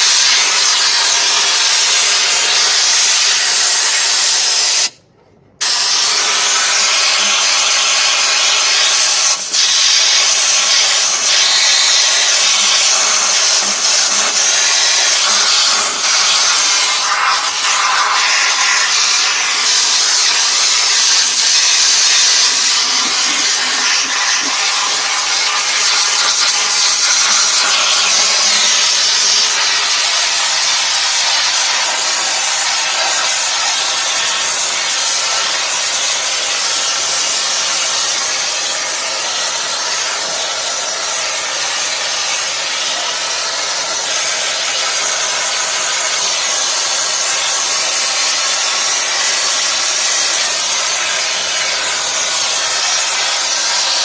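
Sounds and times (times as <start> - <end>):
pressurised water hose spraying: 0.0 - 5.0, 5.6 - 54.0.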